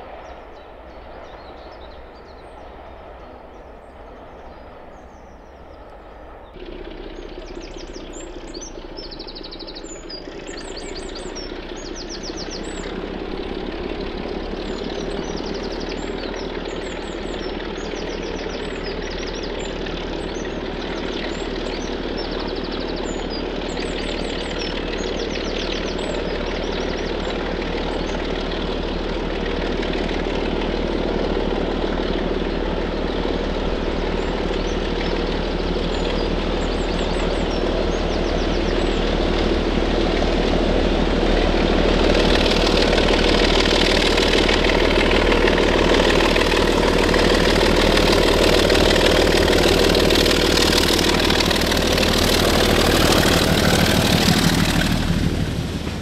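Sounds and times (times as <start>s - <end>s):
diesel train engine approaching: 0.0s - 56.0s
small birds chirping: 0.2s - 40.6s, 41.4s - 56.0s.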